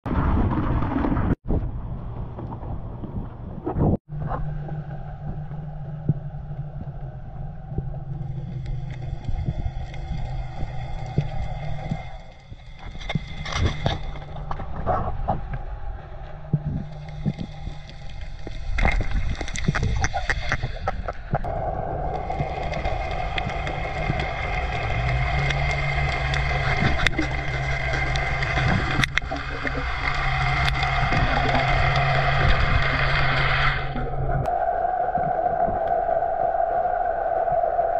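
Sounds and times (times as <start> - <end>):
low motor hum underwater: 0.2 - 37.9.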